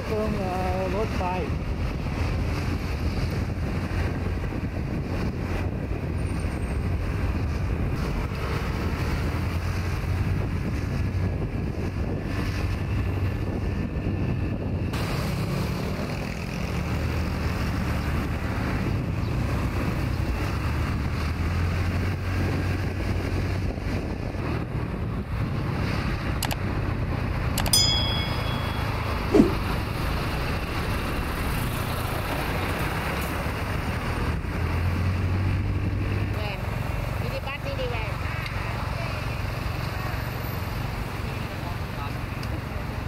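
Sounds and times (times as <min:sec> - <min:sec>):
rushing wind-like noise: 0:00.0 - 0:43.0.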